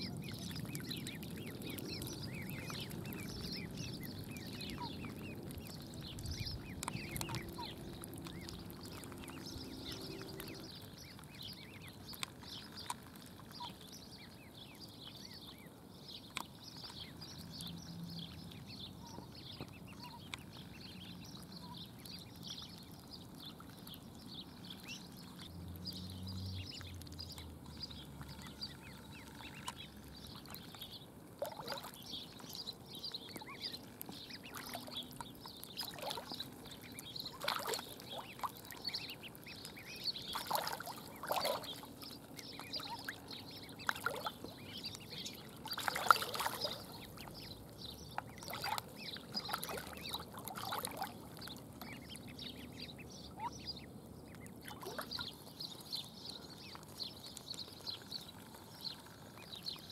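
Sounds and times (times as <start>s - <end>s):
lower duckling calls: 0.0s - 15.7s, 16.8s - 23.0s, 26.5s - 32.4s, 33.1s - 59.8s
ducklings peeping: 0.0s - 59.9s.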